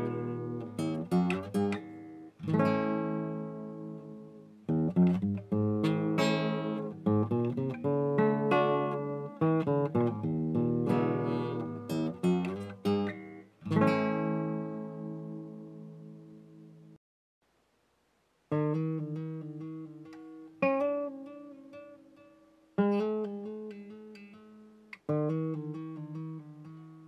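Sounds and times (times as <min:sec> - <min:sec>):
acoustic guitar chords: 0:00.0 - 0:17.0, 0:18.5 - 0:27.0.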